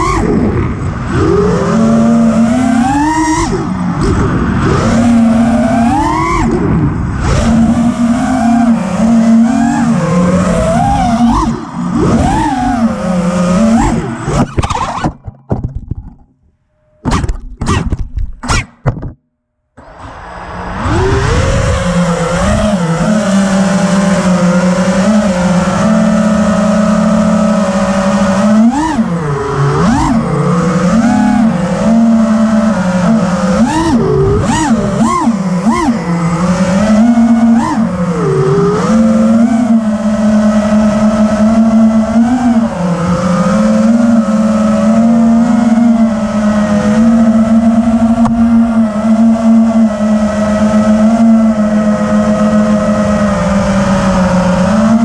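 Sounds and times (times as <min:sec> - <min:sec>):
quadcopter motors whining: 0:00.0 - 0:15.3, 0:19.8 - 0:55.0.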